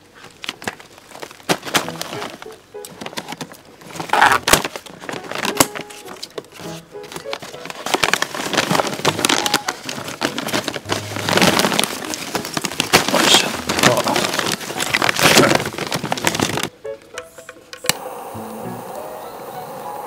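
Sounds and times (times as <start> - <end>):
paper crumpling: 0.0 - 16.7
paper sack and cardboard rustling: 0.0 - 16.7.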